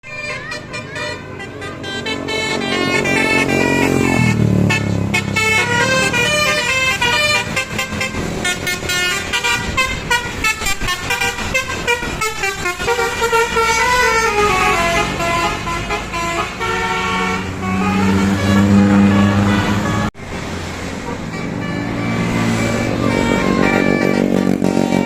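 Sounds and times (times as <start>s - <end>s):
multi-tone bus horn tune: 0.0s - 20.2s, 20.9s - 25.0s.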